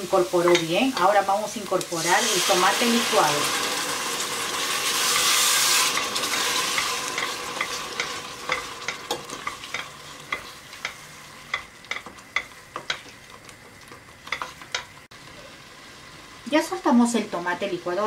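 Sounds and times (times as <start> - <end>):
sauce sizzling in a pot: 0.0 - 18.0.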